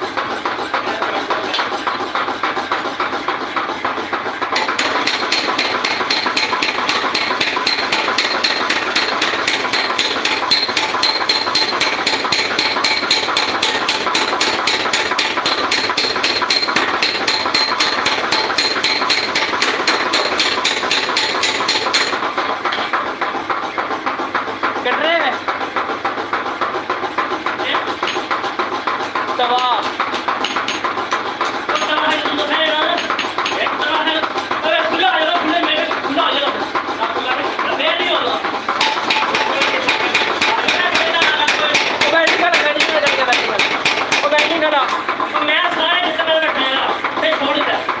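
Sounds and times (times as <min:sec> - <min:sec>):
mechanical running noise: 0:00.0 - 0:48.0.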